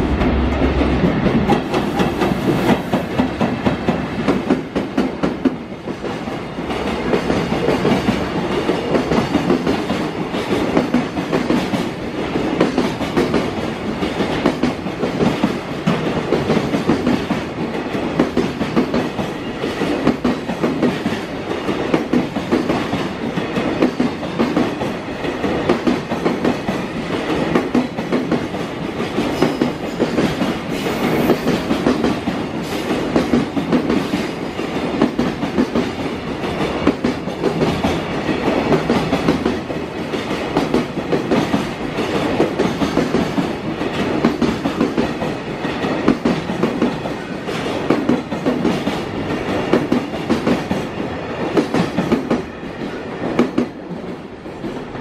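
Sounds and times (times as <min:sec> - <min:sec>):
train wheels clickety-clack: 0:00.0 - 0:55.0.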